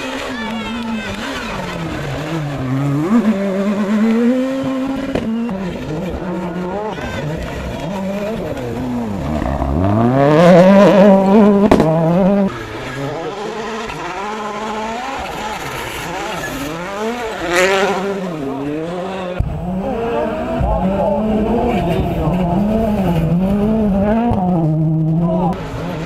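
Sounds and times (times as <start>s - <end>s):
rally car engine revving: 0.0s - 26.0s
second engine: 0.0s - 26.0s.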